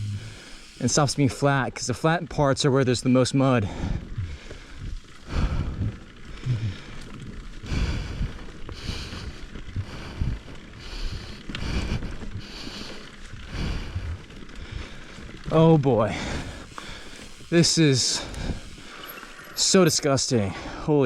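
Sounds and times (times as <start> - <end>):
mountain bike rattling and rumbling: 0.0 - 21.0.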